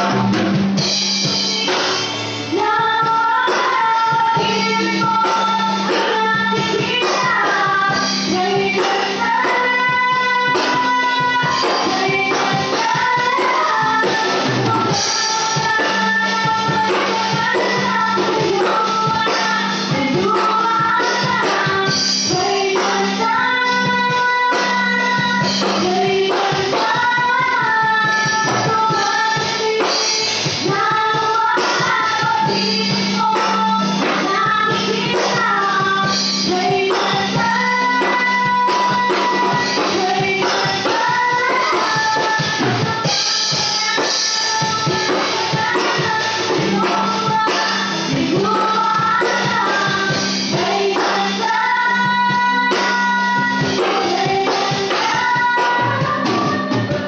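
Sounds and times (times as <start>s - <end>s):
drum kit and cymbals: 0.0s - 57.0s
live band playing: 0.0s - 57.0s
steady bass line: 0.0s - 57.0s
woman singing into a microphone: 0.0s - 57.0s.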